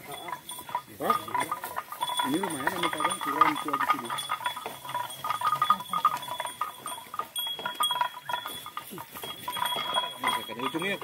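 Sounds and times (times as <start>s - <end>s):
cattle hooves knocking and clinking: 0.0s - 11.0s.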